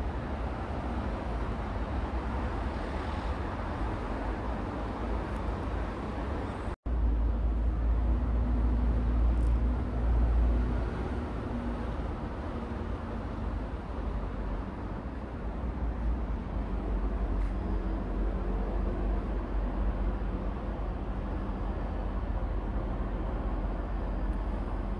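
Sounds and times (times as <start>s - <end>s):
city traffic noise: 0.0s - 24.9s.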